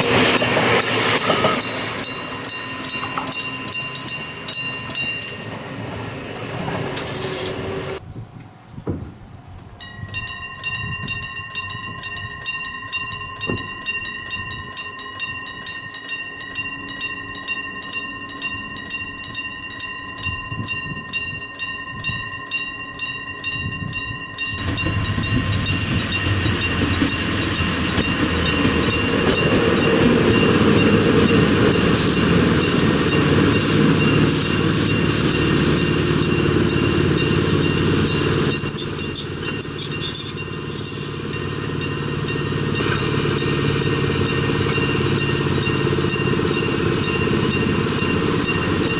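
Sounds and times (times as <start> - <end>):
level crossing bell ringing: 0.0 - 5.6, 9.8 - 48.9
passing train: 0.0 - 48.9.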